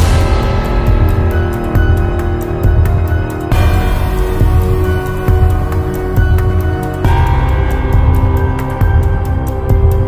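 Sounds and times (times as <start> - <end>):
ambient music with bass pulse: 0.0 - 10.0.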